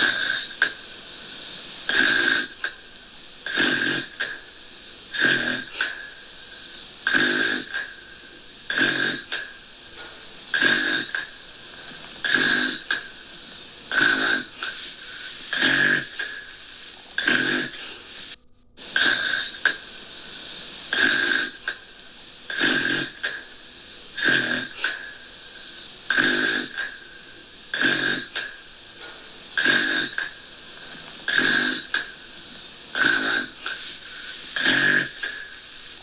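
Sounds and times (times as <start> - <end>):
rasping snores: 0.0 - 16.6, 17.2 - 36.0
faint hiss: 0.0 - 36.0.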